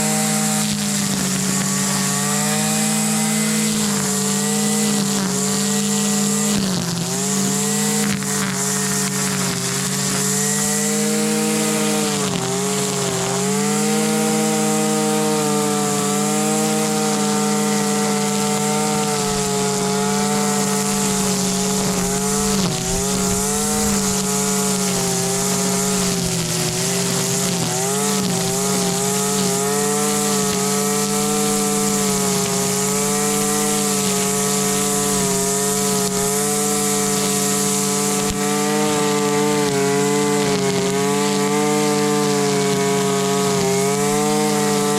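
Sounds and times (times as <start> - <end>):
string trimmer engine high revs: 0.0 - 44.9.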